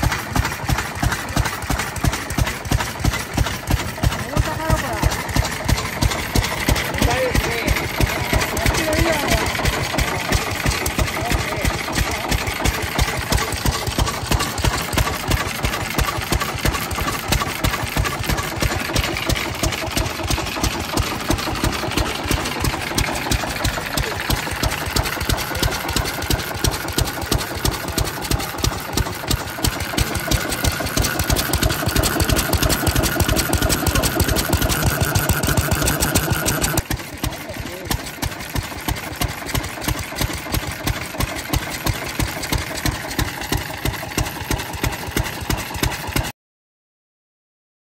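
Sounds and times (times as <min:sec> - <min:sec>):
stationary engine running: 0:00.0 - 0:46.3.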